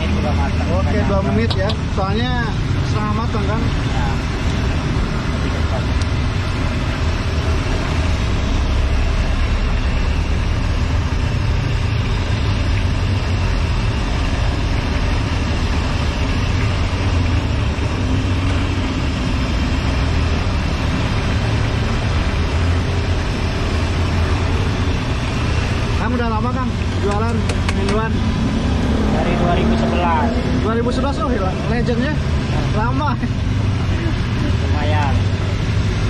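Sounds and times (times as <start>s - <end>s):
food deep-frying in oil: 0.0s - 29.3s
low rumble: 1.8s - 36.0s.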